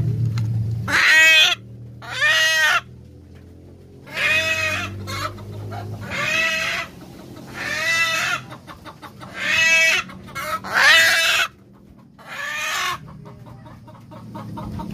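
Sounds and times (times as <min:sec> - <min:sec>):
chicken squawking loudly: 0:00.9 - 0:02.9, 0:04.0 - 0:11.6, 0:12.2 - 0:14.9.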